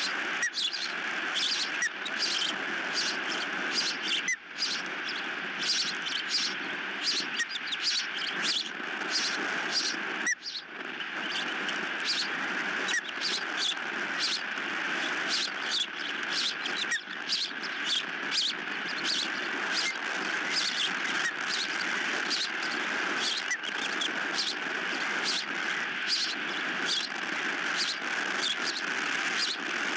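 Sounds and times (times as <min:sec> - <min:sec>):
ospreys chirping: 0:00.0 - 0:29.6.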